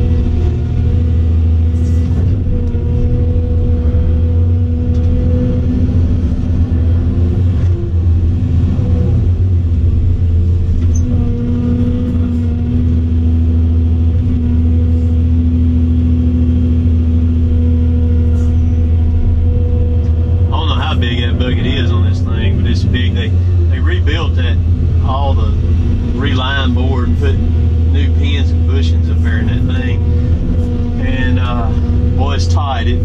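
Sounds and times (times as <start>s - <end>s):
excavator diesel engine drone: 0.0s - 33.0s.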